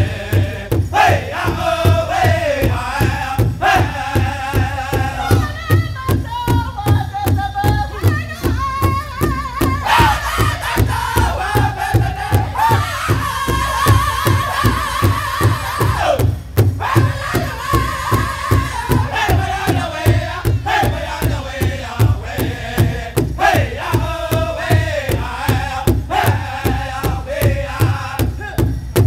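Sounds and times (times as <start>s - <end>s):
men singing in high voices: 0.0s - 28.8s
large drum beating: 0.0s - 29.0s.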